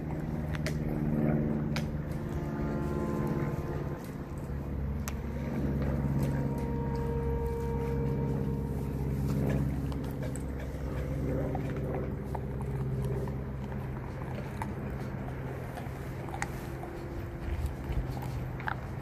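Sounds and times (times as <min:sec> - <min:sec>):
teeth clicking on bone: 0:00.0 - 0:07.0, 0:09.2 - 0:19.0
dog gnawing and crunching bone: 0:00.0 - 0:19.0
steady low hum: 0:00.0 - 0:19.0.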